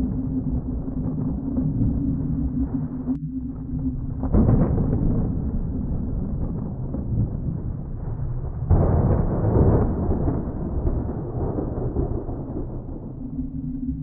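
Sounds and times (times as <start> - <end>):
thunder rumbling: 0.0 - 14.0.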